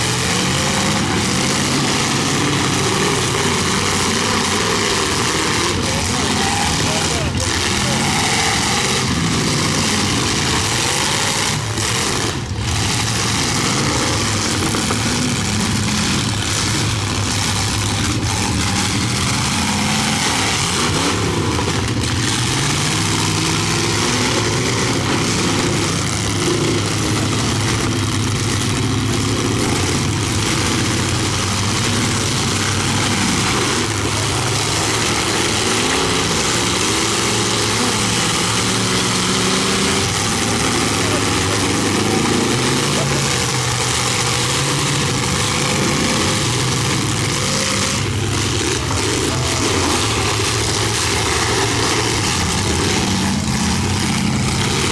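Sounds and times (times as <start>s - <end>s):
car engines revving: 0.0s - 54.9s.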